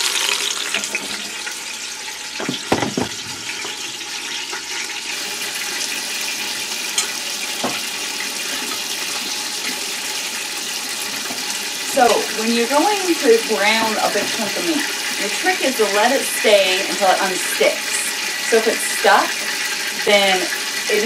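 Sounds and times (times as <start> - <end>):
meat sizzling in a pot: 0.0 - 21.0.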